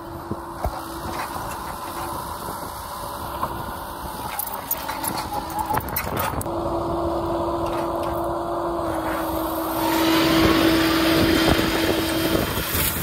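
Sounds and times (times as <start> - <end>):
excavator machine hum: 0.0 - 13.0.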